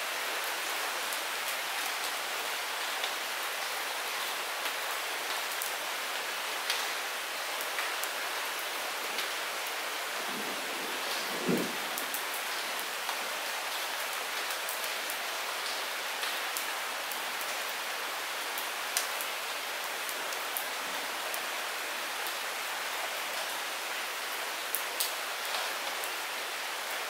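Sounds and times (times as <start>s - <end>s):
light rain hiss: 0.0s - 27.0s.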